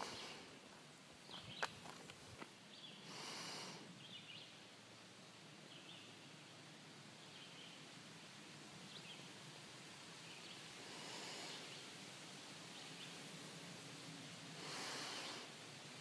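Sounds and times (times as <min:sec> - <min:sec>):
soft rustling hiss: 0:00.0 - 0:16.0.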